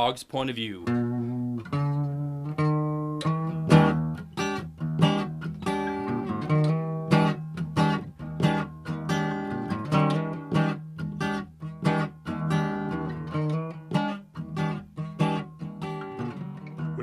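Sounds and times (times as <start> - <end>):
acoustic guitar strumming: 0.4 - 17.0.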